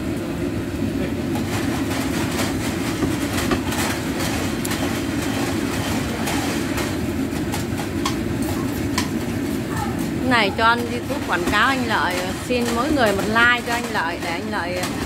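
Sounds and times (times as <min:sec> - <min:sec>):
noodles sizzling in oil: 0:00.0 - 0:15.0.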